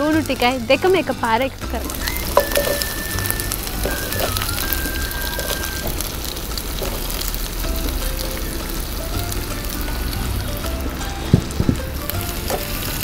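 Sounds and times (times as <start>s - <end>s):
background music with bass: 0.0s - 13.0s
oil sizzling in a frying pan: 0.0s - 13.0s.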